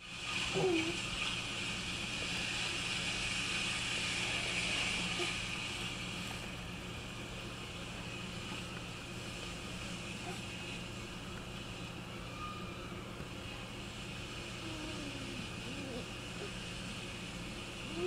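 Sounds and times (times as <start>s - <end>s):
mechanical hum and hiss: 0.0s - 18.0s.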